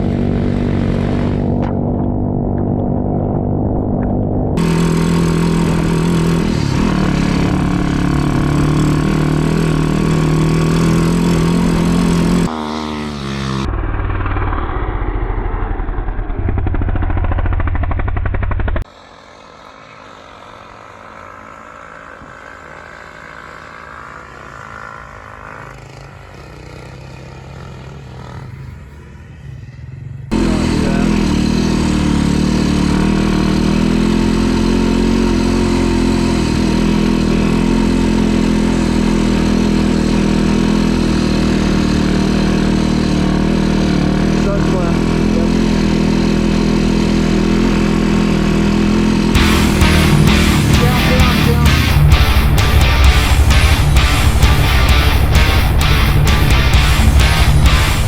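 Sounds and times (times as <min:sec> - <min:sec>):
snow bike engine revving: 0:00.0 - 0:58.0.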